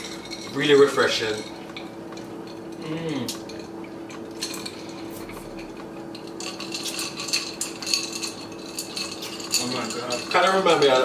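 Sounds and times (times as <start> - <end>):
cutlery clinking on plates: 2.2 - 11.0.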